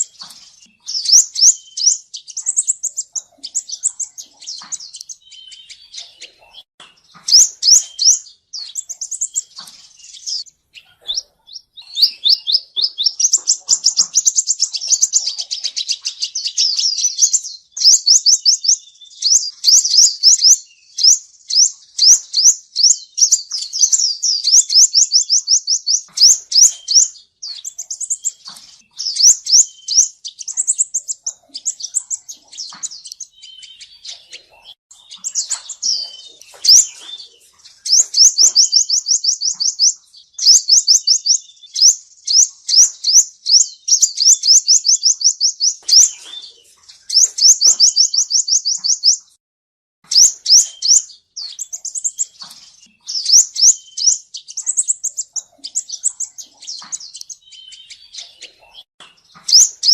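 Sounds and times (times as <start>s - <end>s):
bird trilling: 0.0s - 49.3s, 50.1s - 59.9s.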